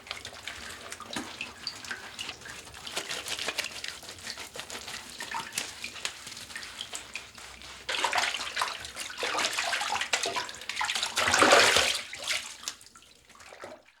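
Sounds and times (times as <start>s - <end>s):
water splashing in a bathtub: 0.0s - 14.0s.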